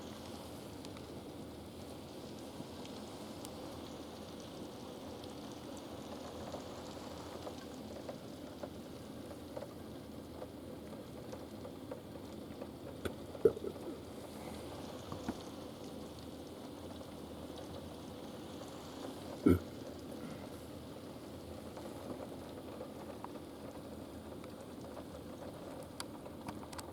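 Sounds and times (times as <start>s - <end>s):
rain falling: 0.0s - 26.9s.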